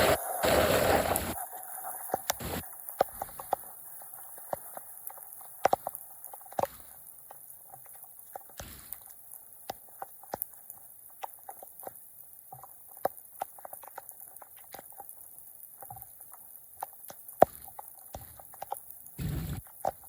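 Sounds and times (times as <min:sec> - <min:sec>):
water popping and dripping in drain: 0:02.1 - 0:20.0.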